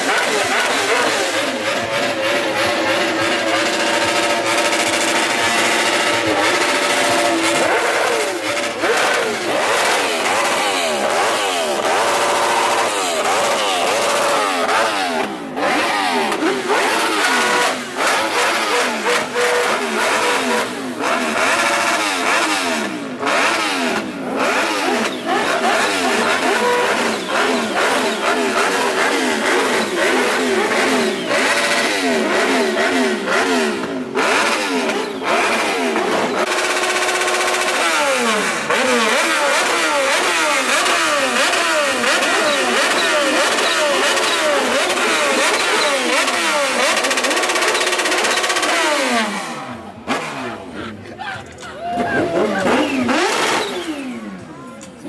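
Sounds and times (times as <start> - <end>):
motorcycles revving: 0.0 - 55.0.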